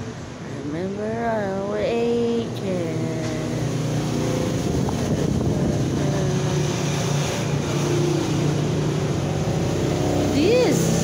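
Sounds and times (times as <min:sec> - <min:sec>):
vehicle engine running: 0:02.0 - 0:11.0.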